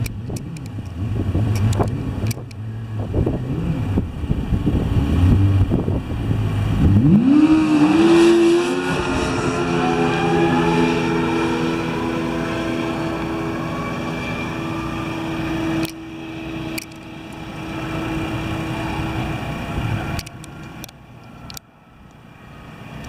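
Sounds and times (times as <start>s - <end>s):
snowmobile engine at high revs: 0.0s - 20.8s.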